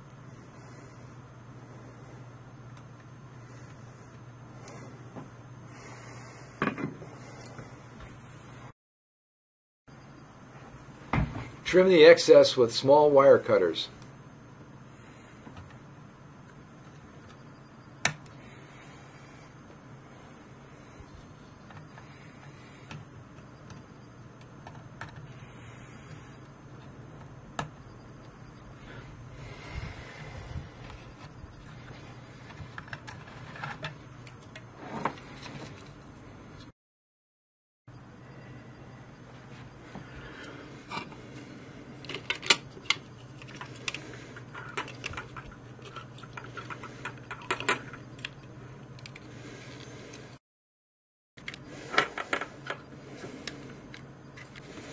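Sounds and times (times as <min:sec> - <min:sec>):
low steady hum: 0:00.0 - 0:08.7, 0:09.9 - 0:36.7, 0:37.9 - 0:50.4, 0:51.4 - 0:54.9.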